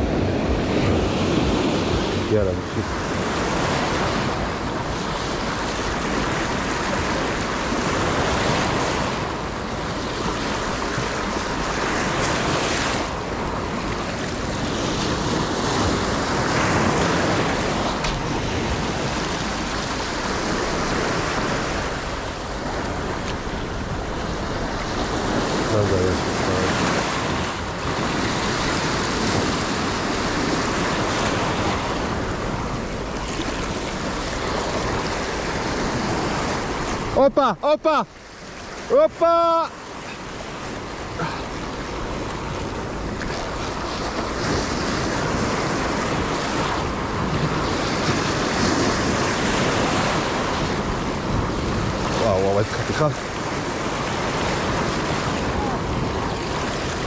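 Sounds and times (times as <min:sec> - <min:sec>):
wind buffeting microphone: 0:00.0 - 0:37.2, 0:39.8 - 0:57.0
sea waves washing over rocks: 0:00.0 - 0:57.0.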